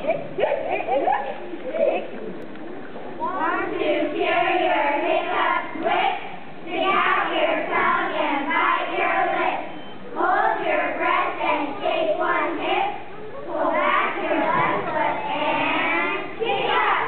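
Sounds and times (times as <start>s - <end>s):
children reciting in chorus: 3.2s - 17.0s.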